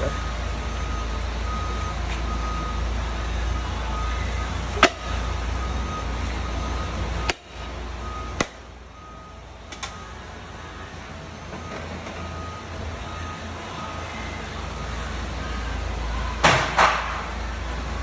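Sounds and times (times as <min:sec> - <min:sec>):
low shop hum: 0:00.0 - 0:18.0.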